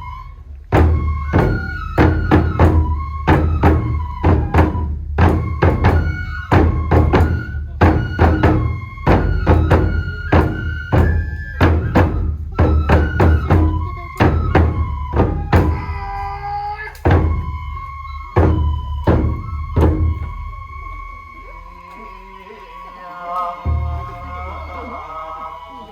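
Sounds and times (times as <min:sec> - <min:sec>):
bamboo flute high notes: 0:00.0 - 0:25.9
taiko drums struck rapidly: 0:00.7 - 0:20.8, 0:23.6 - 0:24.4.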